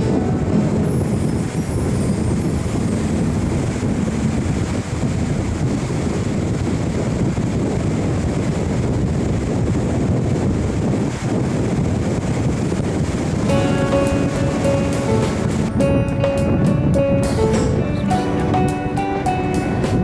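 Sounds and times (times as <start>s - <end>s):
ferry engine rumble: 0.0s - 20.0s
wind noise on microphone: 0.0s - 20.0s.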